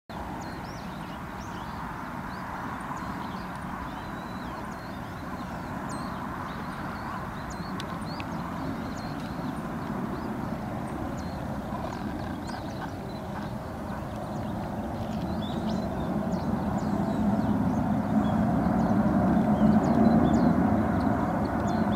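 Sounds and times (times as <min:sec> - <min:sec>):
steady rushing noise: 0:00.2 - 0:21.9.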